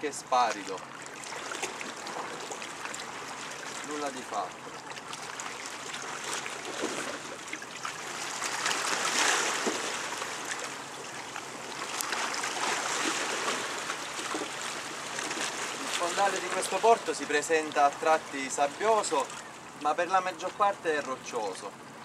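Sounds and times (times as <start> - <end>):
sea water lapping against pier: 0.0 - 22.0.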